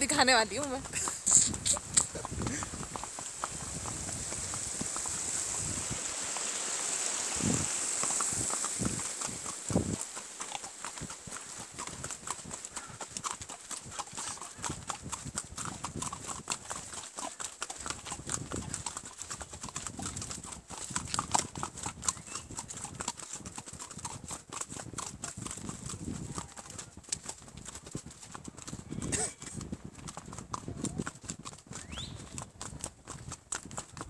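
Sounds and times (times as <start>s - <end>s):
horse hooves clip-clopping: 0.0s - 34.0s.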